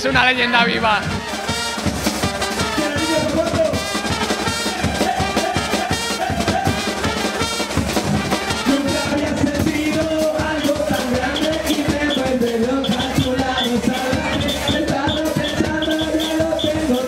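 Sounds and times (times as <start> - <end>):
bass drum and snare beat: 0.0 - 17.0
brass band playing: 0.0 - 17.0.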